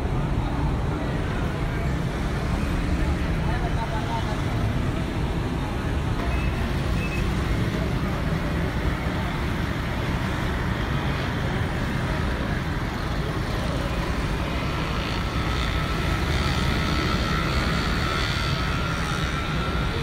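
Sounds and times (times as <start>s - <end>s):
busy street traffic hum: 0.0s - 20.0s.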